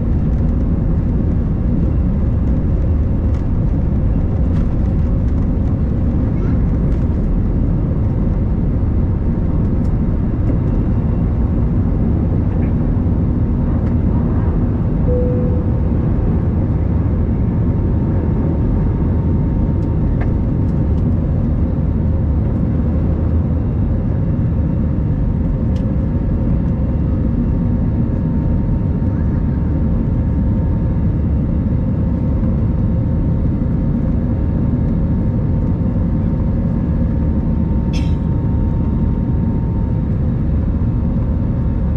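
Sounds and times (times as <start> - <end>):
faint constant hum: 0.0 - 41.9
jet engine cabin rumble: 0.0 - 41.9.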